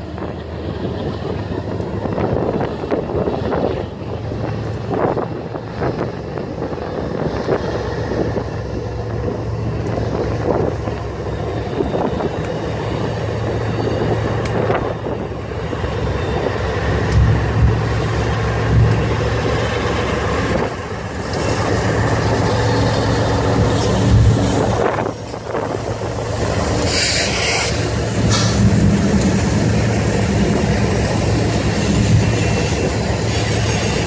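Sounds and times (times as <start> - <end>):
diesel locomotives passing: 0.0 - 34.0.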